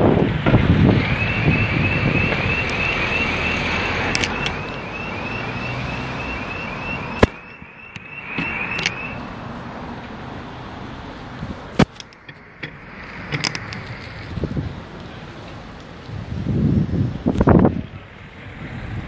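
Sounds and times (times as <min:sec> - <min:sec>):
bicycle road noise: 0:00.0 - 0:19.0
wind noise: 0:00.0 - 0:19.0.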